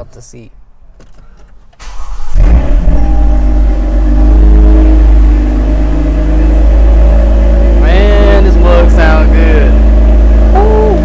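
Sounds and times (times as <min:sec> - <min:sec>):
car engine starting and idling: 0:01.0 - 0:11.0.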